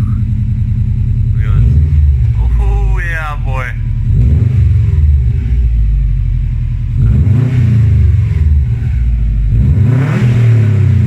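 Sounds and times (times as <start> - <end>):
car exhaust deep rumble: 0.0 - 11.0.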